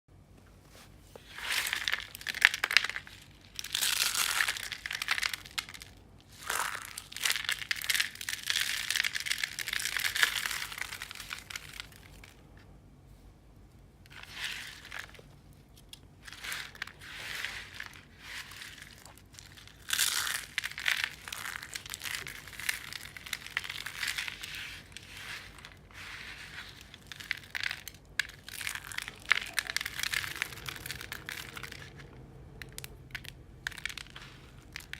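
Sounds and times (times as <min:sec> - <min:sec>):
dry soap crunching: 0:01.2 - 0:12.7, 0:14.1 - 0:34.9.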